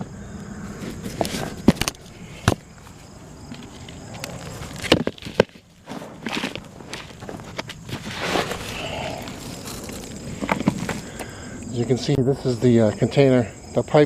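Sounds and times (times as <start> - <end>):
compost rustling and scraping: 0.5 - 12.2.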